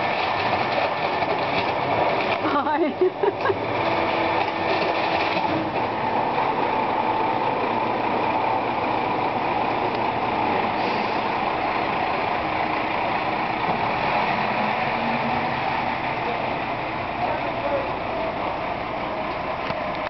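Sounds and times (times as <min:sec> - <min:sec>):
garbage truck running: 0:00.0 - 0:20.0.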